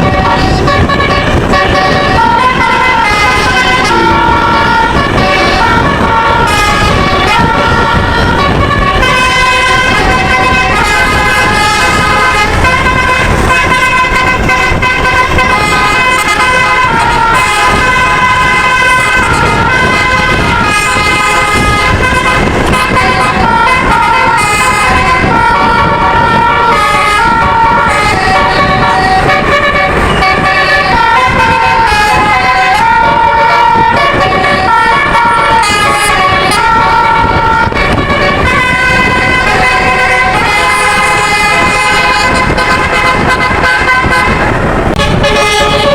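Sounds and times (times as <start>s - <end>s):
low noisy rumble: 0.0s - 45.9s
musical air horn melody: 0.0s - 45.9s.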